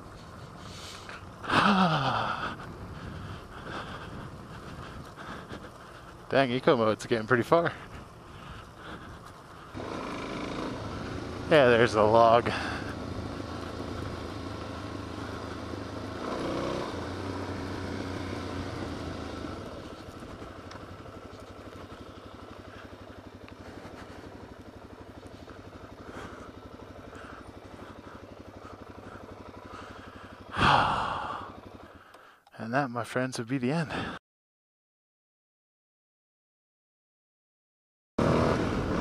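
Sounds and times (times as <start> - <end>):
motorcycle engine at low revs: 0.0 - 32.5, 38.2 - 39.0.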